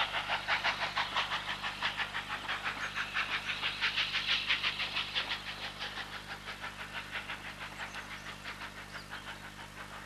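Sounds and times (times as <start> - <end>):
steam locomotive chuffing: 0.0 - 10.0.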